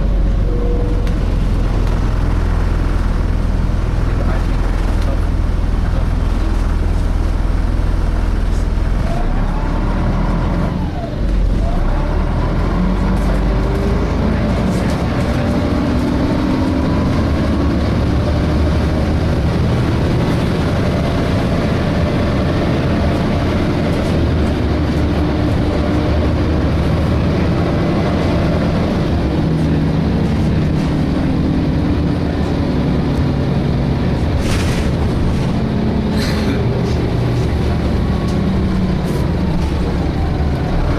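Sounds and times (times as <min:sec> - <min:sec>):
bus diesel engine under load: 0:00.0 - 0:40.9.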